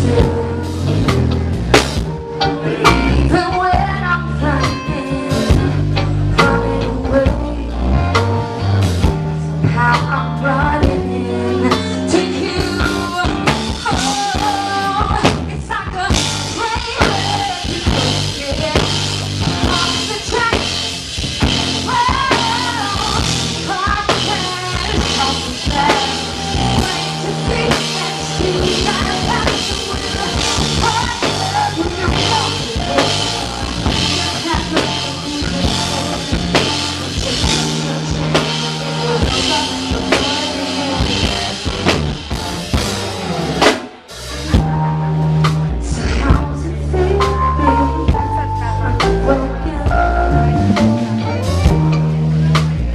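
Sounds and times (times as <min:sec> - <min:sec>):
person singing: 0:00.0 - 0:01.2, 0:02.4 - 0:42.0, 0:45.6 - 0:52.6
drum kit beat: 0:00.0 - 0:52.9
live rock band: 0:00.0 - 0:52.9.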